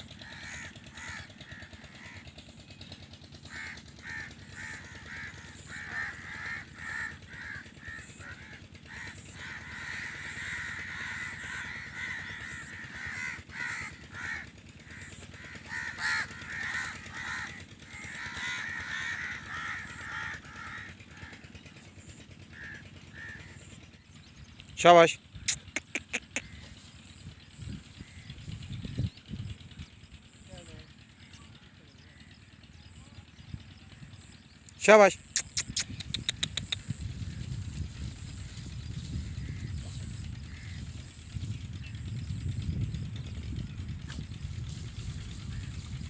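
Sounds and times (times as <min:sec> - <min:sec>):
birds chattering: 0:00.0 - 0:46.0.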